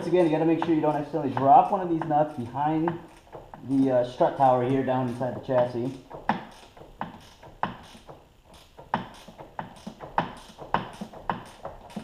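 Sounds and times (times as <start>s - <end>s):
ratchet wrench clicking: 0.0s - 12.0s.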